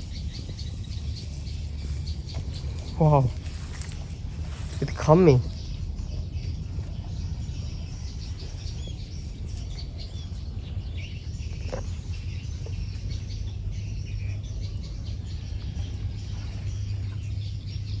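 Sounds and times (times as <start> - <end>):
high insect whine: 0.0 - 18.0
low rumble: 0.0 - 18.0
small birds chirping: 0.0 - 18.0.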